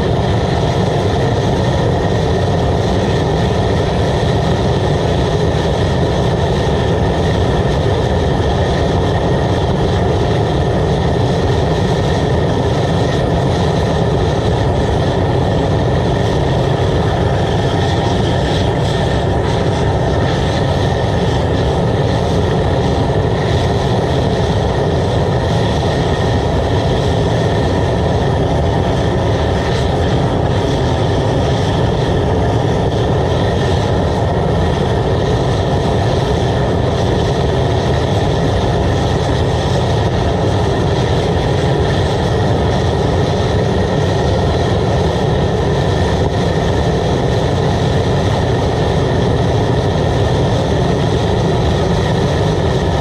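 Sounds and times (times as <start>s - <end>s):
oil burner flame rushing: 0.0s - 53.0s
water at a rolling boil: 0.0s - 53.0s.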